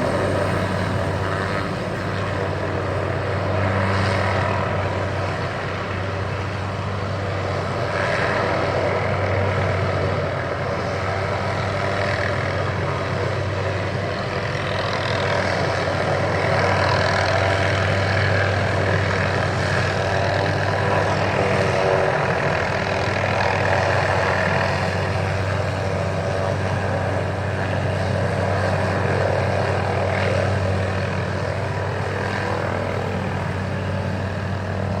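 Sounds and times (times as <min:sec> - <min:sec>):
helicopter hovering: 0:00.0 - 0:35.0.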